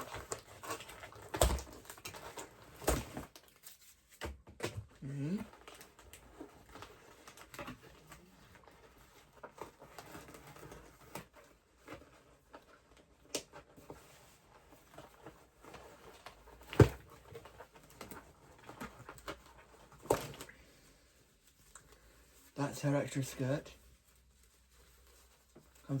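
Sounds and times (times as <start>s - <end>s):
toy doll handling clicks and rustles: 0.0s - 26.0s.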